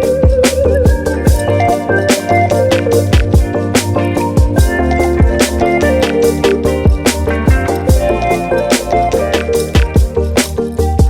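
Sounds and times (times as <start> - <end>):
bass line: 0.0 - 11.0
melodic notes: 0.0 - 11.0
steady drum beat: 0.0 - 11.0.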